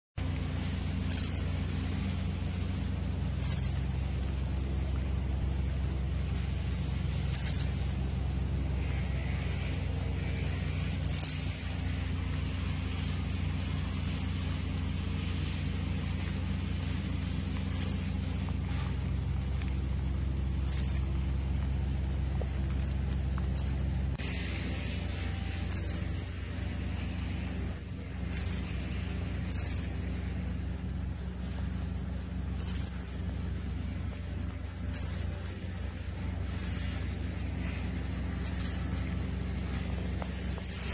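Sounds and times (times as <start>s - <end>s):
steady low hum: 0.2s - 40.9s
small bird chirping: 0.4s - 26.2s, 28.0s - 40.9s.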